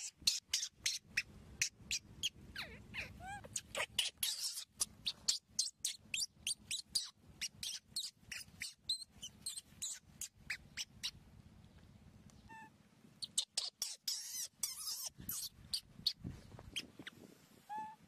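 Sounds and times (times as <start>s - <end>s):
baby monkeys squeaking: 0.0s - 11.2s, 12.5s - 18.0s.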